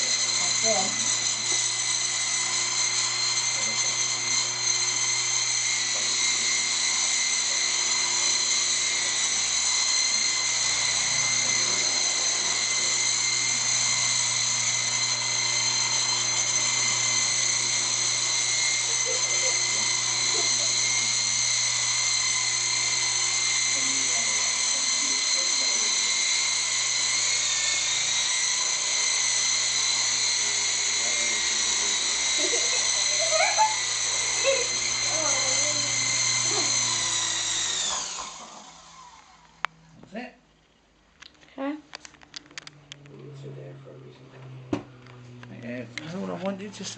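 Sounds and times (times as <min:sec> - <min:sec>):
rc helicopter rotor whine: 0:00.0 - 0:39.7, 0:42.0 - 0:46.9.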